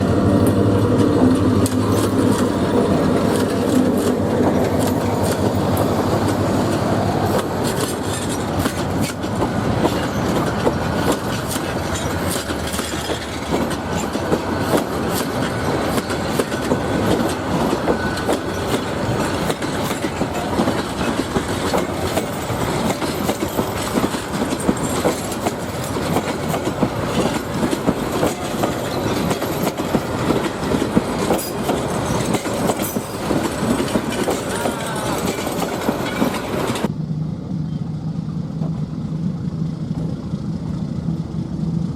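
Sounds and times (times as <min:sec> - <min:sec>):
train wheels clattering on track: 0:00.0 - 0:36.9.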